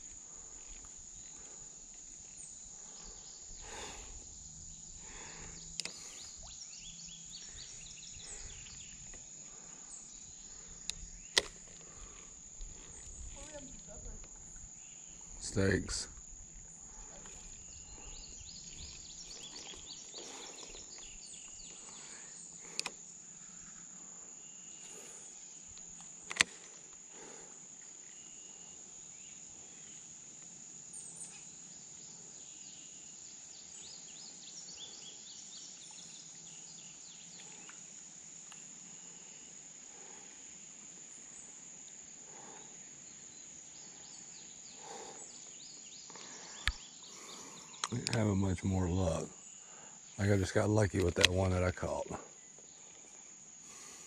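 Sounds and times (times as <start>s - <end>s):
insects chirping: 0.0s - 54.0s
insects droning: 0.0s - 54.0s.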